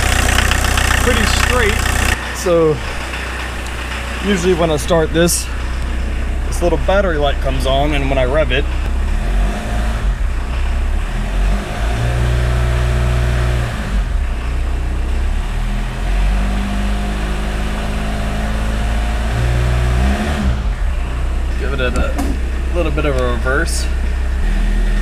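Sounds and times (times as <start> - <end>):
diesel engine idling and revving: 0.0 - 25.0.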